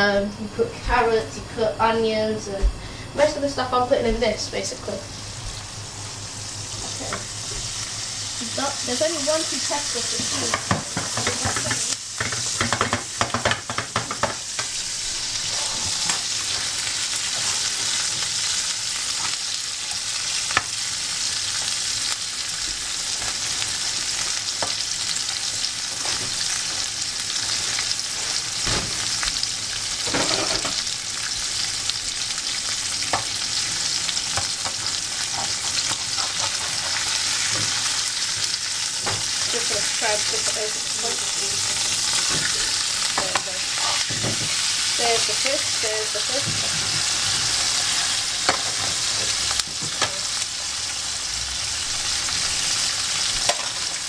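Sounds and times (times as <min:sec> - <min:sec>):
fish frying in hot oil: 0:05.4 - 0:54.0.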